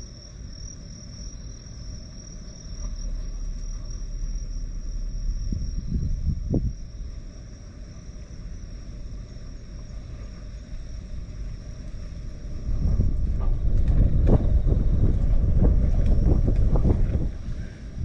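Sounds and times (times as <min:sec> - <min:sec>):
high insect trill: 0:00.0 - 0:18.0
wind buffeting microphone: 0:03.0 - 0:18.0.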